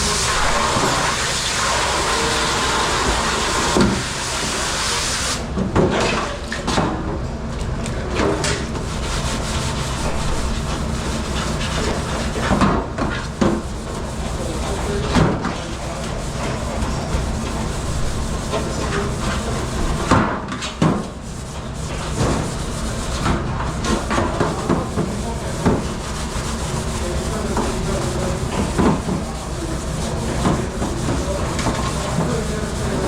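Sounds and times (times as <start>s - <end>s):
steady machine hum: 0.0s - 5.6s, 7.1s - 20.3s, 21.0s - 33.0s.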